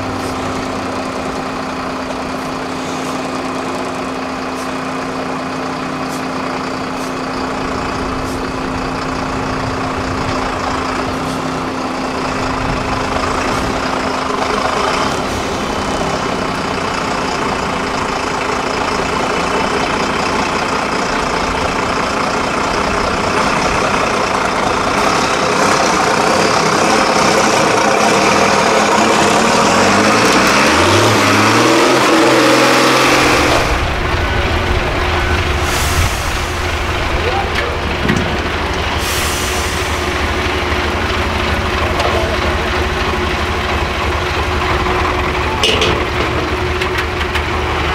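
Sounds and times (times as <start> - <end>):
truck diesel engine under load: 0.0 - 47.9.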